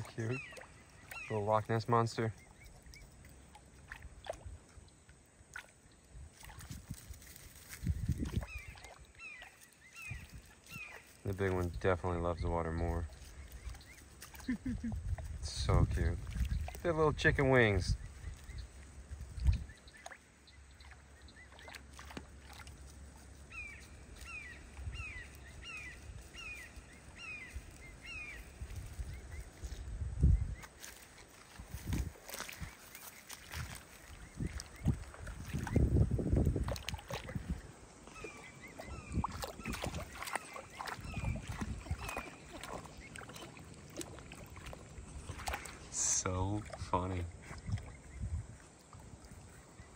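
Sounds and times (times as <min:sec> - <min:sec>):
water splashing: 0:00.0 - 0:29.5, 0:30.6 - 0:49.9.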